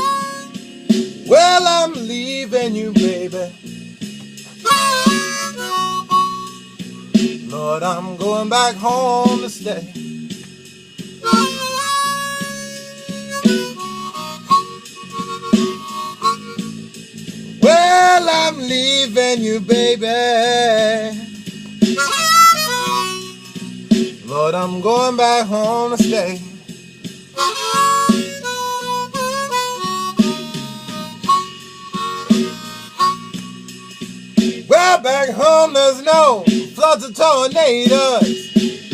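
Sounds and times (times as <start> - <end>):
blues harmonica: 0.0 - 38.9
drum and bass backing track: 0.0 - 38.9.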